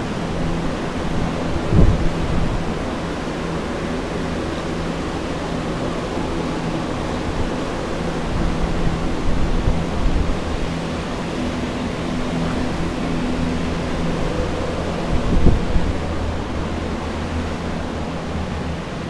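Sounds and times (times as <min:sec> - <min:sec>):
air movers rushing: 0:00.0 - 0:19.0
low hum: 0:00.0 - 0:19.0.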